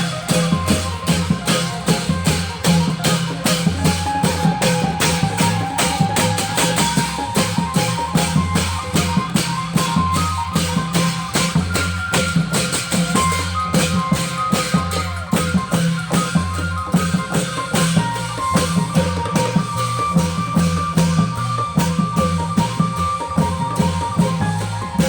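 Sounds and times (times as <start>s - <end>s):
drums and cymbals: 0.0s - 25.0s
held melody notes: 0.0s - 25.0s.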